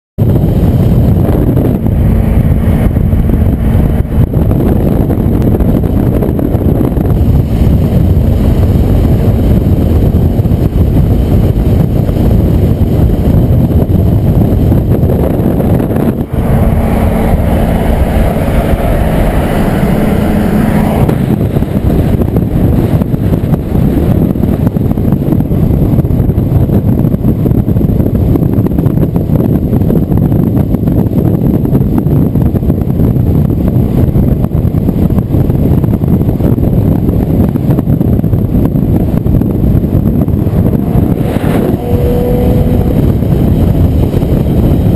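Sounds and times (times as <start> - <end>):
car engine hum: 0.2 - 44.9
wind and road noise: 0.2 - 44.9.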